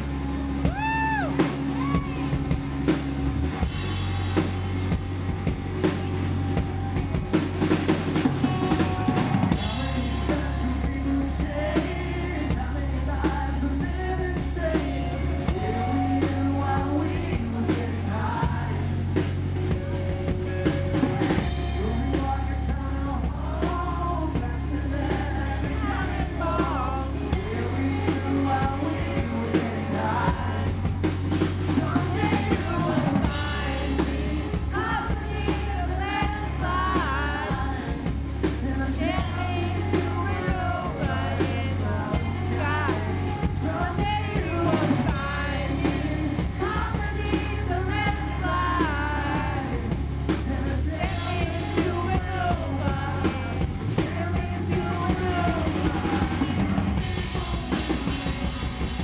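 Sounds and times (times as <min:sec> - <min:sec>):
man singing lead: 0:00.0 - 0:02.6, 0:07.6 - 0:59.0
live rock band playing: 0:00.0 - 0:59.0.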